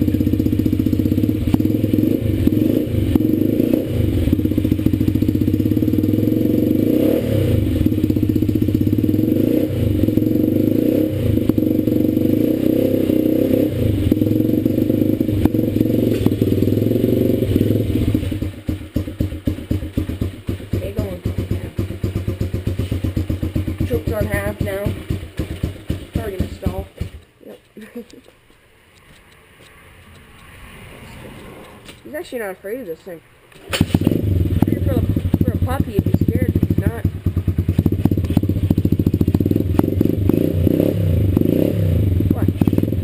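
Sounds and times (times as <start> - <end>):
dirt bike engine idling: 0.0 - 27.3, 33.8 - 43.0.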